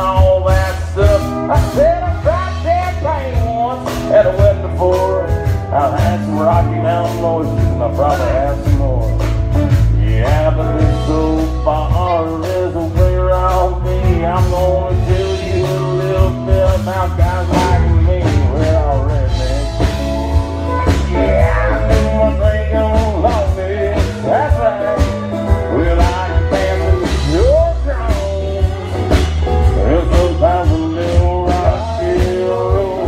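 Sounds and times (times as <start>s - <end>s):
electric bass: 0.0s - 33.0s
live country band playing: 0.0s - 33.0s
saxophone lead line: 0.0s - 33.0s
steady drum beat: 0.0s - 33.0s.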